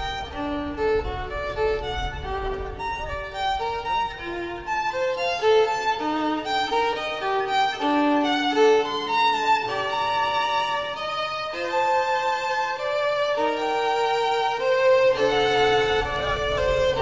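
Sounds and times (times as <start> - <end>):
slow bowed violin melody: 0.0 - 17.0.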